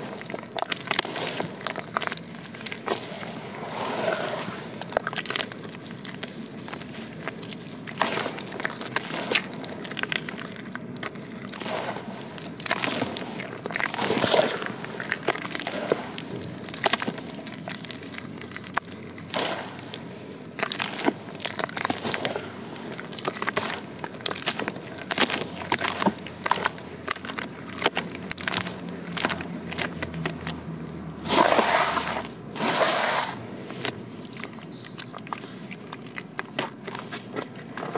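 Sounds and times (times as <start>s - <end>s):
hands kneading wet paste: 0.0s - 37.9s.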